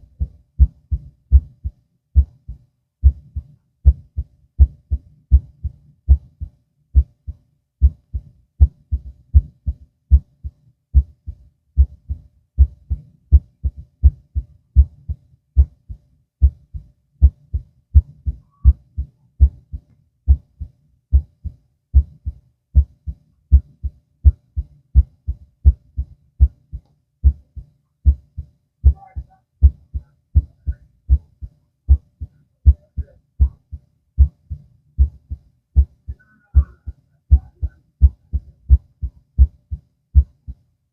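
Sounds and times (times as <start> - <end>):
heartbeat through stethoscope: 0.0 - 40.7.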